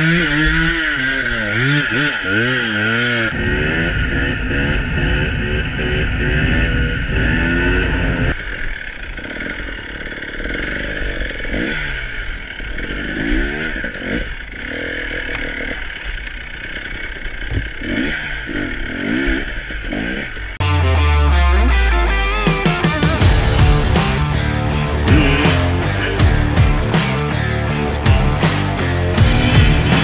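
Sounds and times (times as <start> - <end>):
two-stroke motorbike engine revving: 0.0 - 20.6, 22.6 - 30.0.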